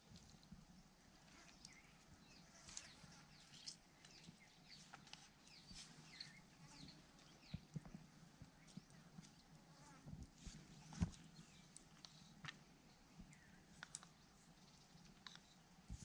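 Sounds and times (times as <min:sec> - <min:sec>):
small birds chirping: 0:00.0 - 0:10.0, 0:10.6 - 0:16.0.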